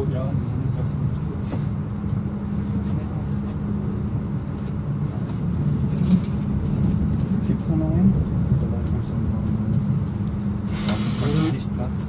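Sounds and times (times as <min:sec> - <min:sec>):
constant hum: 0:00.0 - 0:12.0
train rumbling: 0:00.0 - 0:12.0.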